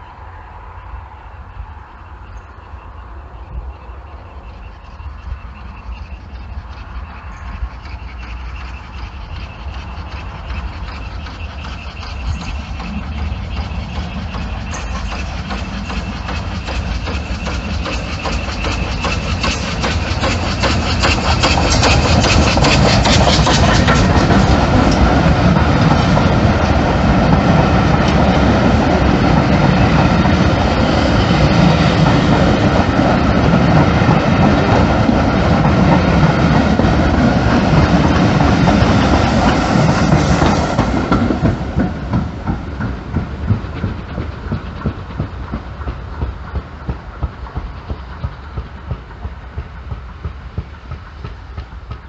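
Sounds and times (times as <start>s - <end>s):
steam locomotive passing: 0.0s - 52.0s
train coaches rumbling past: 0.0s - 52.0s
wheels clicking over rail joints: 4.4s - 52.0s.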